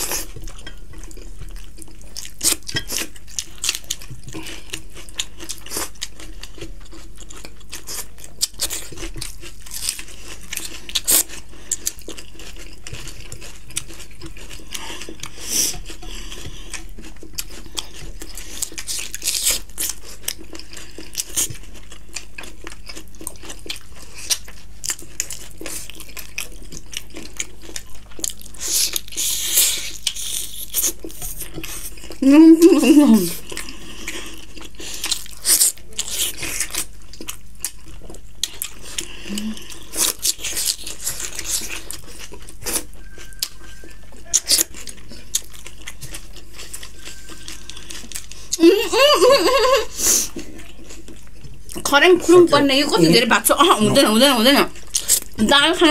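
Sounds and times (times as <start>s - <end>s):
people chewing food: 0.0s - 55.9s.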